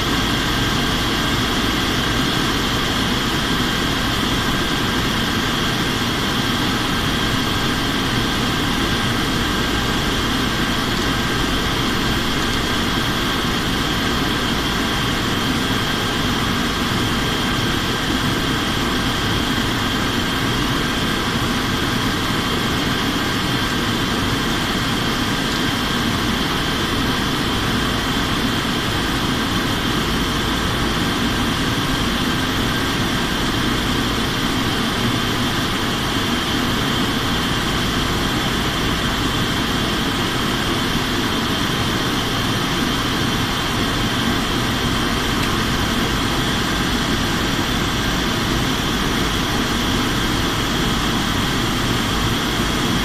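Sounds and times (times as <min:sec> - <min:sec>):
airliner engine drone and airflow: 0:00.0 - 0:53.0.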